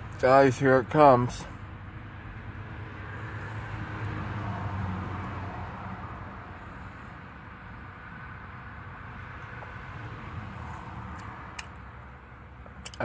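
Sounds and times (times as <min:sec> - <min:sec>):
car passing: 0:01.4 - 0:13.0.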